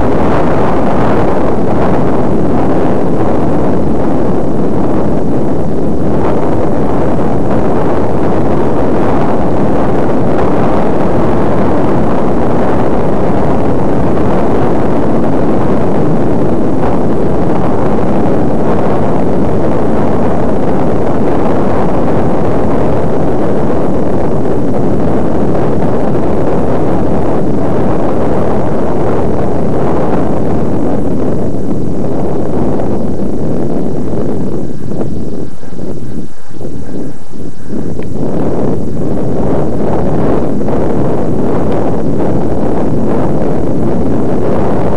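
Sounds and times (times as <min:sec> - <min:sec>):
ride rumble: 0:00.0 - 0:44.9
wind buffeting microphone: 0:00.0 - 0:44.9.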